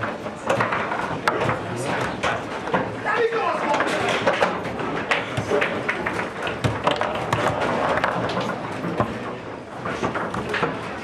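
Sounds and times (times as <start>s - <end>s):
foosball knocks and clacks: 0.0s - 3.0s, 3.7s - 11.0s.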